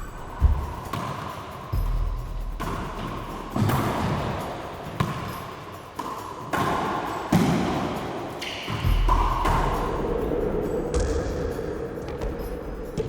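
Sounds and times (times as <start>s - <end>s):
background music: 0.0s - 13.0s
racquetball hitting racquets and walls: 0.0s - 13.0s.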